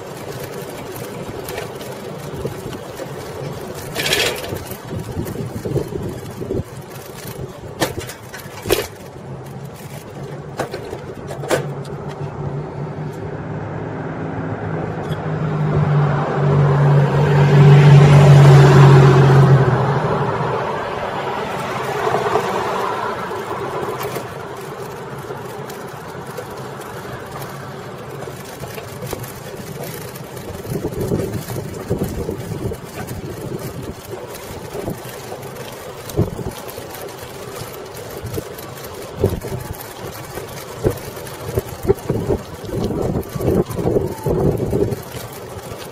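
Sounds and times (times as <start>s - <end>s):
bicycle knocks and rattles: 0.0s - 13.3s, 21.1s - 45.9s
bicycle rolling rumble: 0.0s - 45.9s
car passing: 0.0s - 45.9s.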